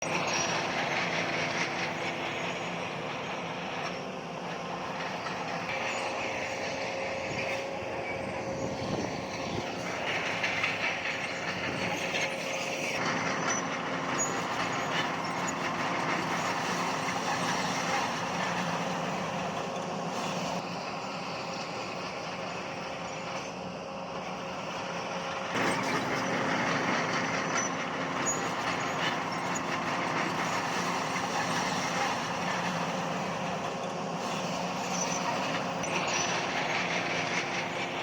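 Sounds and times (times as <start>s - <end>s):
rumbling rattling noise: 0.0s - 18.8s, 25.5s - 38.0s
diesel machinery engine drone: 0.0s - 38.0s.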